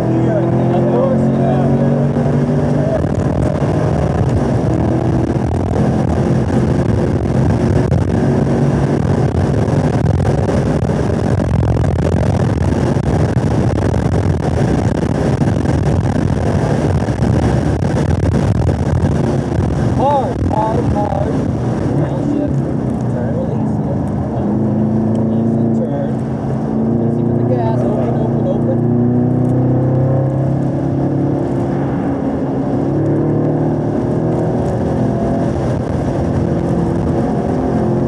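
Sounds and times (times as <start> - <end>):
car engine at full throttle: 0.0 - 38.0
wind and road noise: 0.0 - 38.0.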